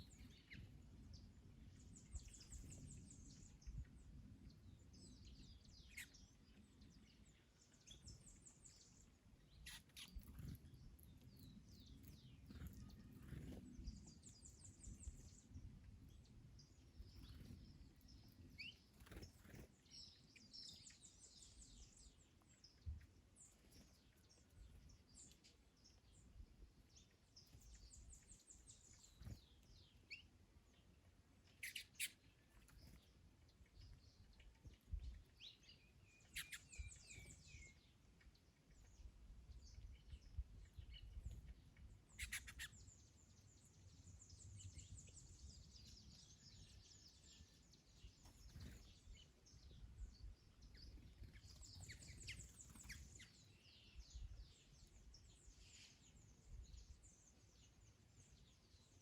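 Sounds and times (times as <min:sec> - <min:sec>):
low rumble of wind: 0:00.0 - 0:31.6, 0:32.2 - 0:58.9
small birds chirping: 0:00.0 - 0:59.0.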